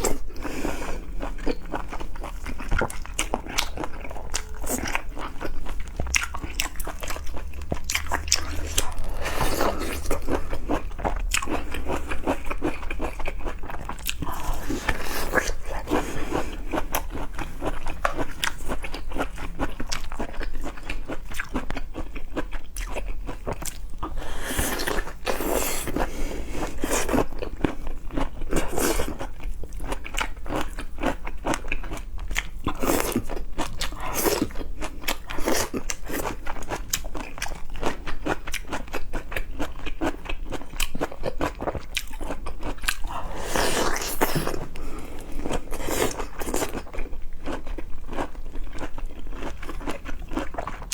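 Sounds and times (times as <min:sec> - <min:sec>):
person chewing and crunching food: 0:00.0 - 0:50.9.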